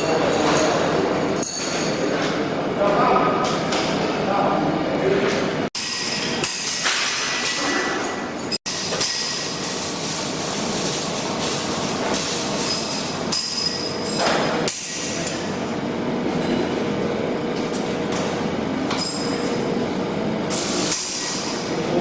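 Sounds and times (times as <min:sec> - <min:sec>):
welding workshop noise: 0:00.0 - 0:22.0.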